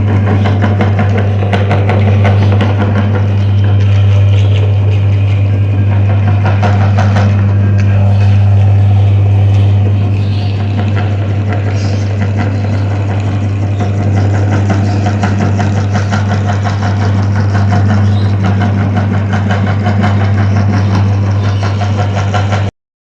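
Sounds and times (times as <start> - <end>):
meat grinder motor hum: 0.0 - 22.7
soap crackling in grinder: 0.0 - 22.7.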